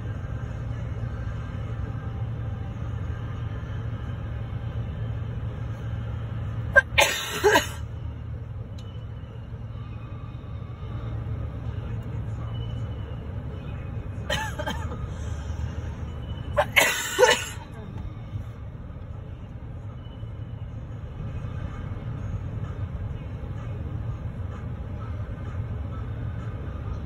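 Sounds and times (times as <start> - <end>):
freight train rumble: 0.0 - 27.0.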